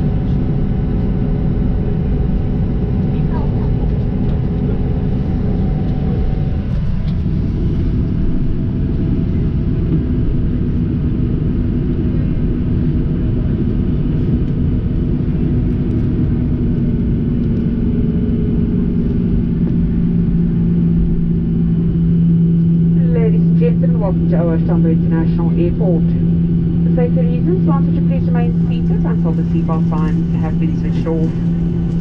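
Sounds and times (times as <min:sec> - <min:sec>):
airplane cabin rumble: 0:00.0 - 0:32.0
jet engines idling hum: 0:00.0 - 0:32.0.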